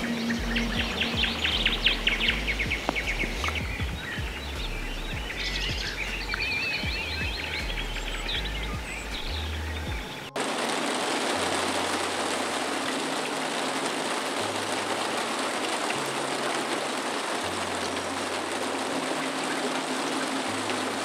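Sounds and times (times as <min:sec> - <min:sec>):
soft background music: 0:00.0 - 0:21.0
steady water noise: 0:00.0 - 0:21.0.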